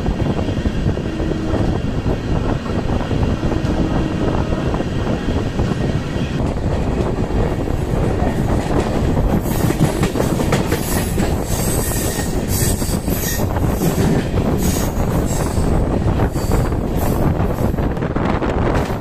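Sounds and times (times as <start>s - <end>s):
train wheels rumbling and clattering: 0.0s - 19.0s.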